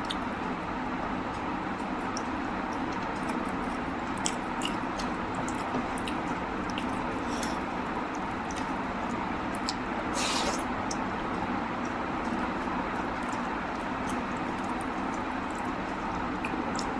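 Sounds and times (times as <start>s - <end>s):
wet eating squishes: 1.3s - 16.9s.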